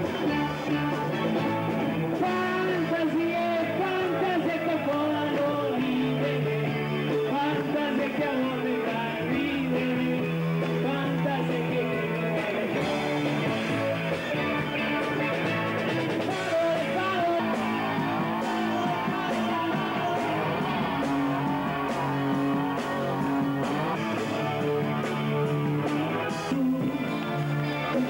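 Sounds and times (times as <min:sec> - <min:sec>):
live rock and roll band: 0:00.0 - 0:28.0
person singing: 0:00.0 - 0:28.0.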